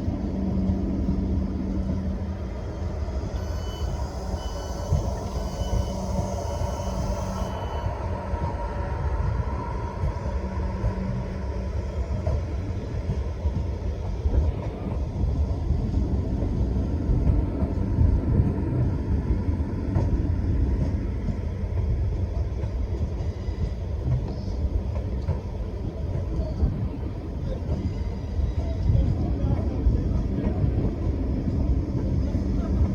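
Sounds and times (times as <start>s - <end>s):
train wheels rumbling on track: 0.0s - 32.9s.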